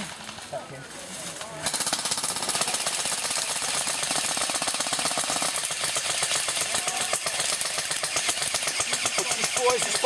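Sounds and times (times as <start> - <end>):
airsoft rifles firing full auto: 1.6 - 10.0.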